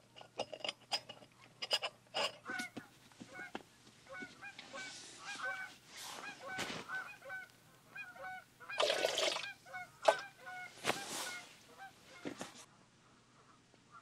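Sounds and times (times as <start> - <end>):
geese honking: 2.4 - 14.0.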